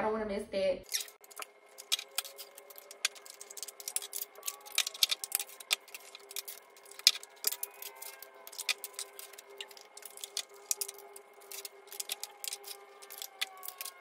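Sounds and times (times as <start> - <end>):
plastic tubs clicking and crinkling: 0.9 - 14.0.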